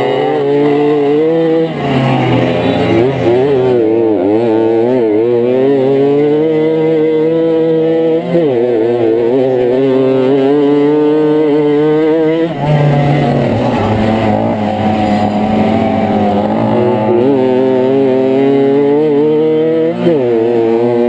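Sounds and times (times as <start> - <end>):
moped engine at high revs: 0.0 - 21.0.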